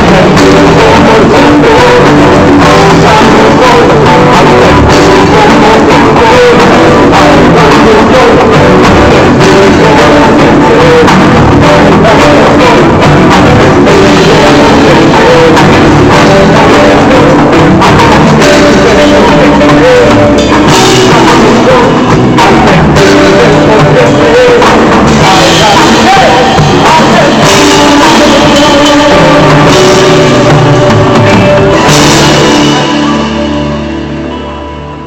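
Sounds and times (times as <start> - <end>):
drum kit: 0.0 - 35.0
live band through speakers: 0.0 - 35.0
person singing: 0.0 - 35.0.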